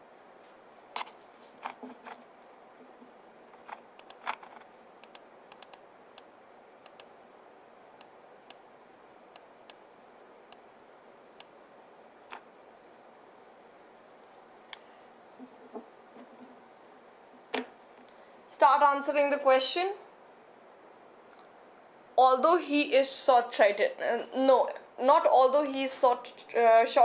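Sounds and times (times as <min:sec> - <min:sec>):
faint room hiss: 0:00.0 - 0:27.0.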